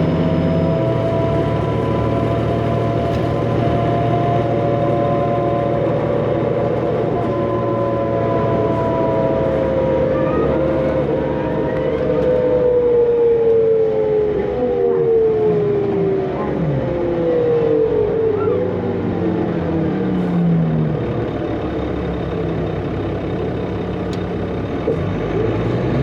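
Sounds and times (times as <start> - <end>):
turbocharger whine: 0.0 - 25.8
bus engine rumble: 0.0 - 26.0.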